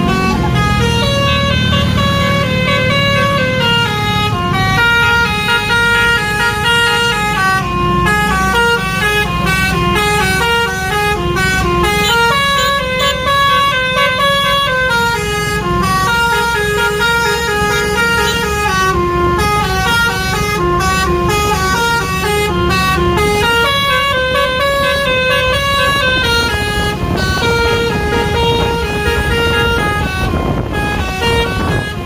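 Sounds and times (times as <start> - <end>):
bus musical horn melody: 0.0 - 32.0.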